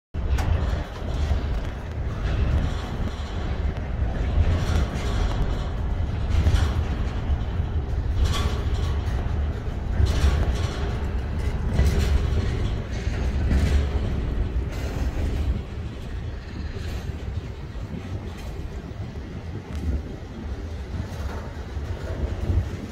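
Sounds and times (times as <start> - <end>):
freight train wheels rumbling: 0.1 - 22.9
wheels clattering: 0.2 - 22.9.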